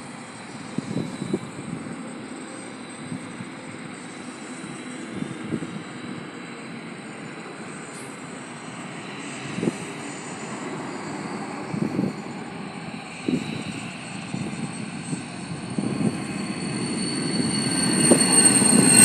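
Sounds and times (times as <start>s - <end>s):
distant jet engine rush: 0.0s - 19.0s.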